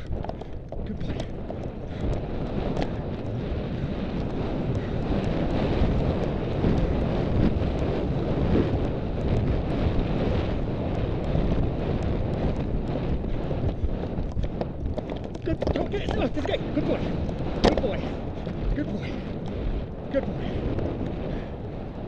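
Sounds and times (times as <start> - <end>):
faint hoofbeats: 0.0 - 22.0
wind buffeting microphone: 0.0 - 22.0.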